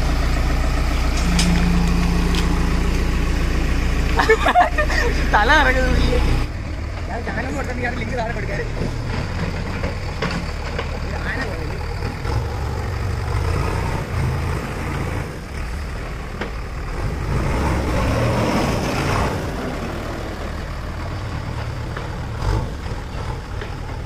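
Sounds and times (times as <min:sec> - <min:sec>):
diesel engine of backhoe loader: 0:00.0 - 0:24.0.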